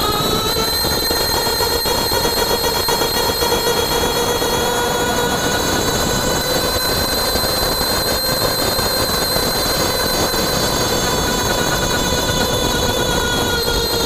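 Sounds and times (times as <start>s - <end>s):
axle whine: 0.0s - 14.0s.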